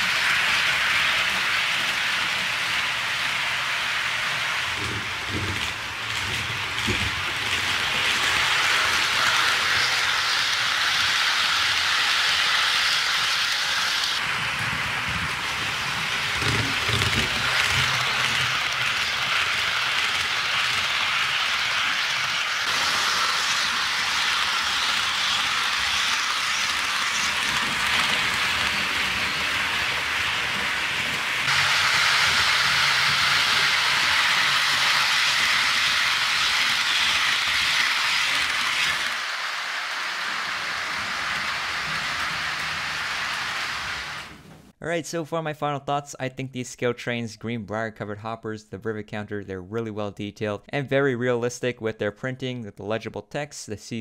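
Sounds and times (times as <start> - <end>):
model train wheels rattling on rails: 0.0 - 44.5.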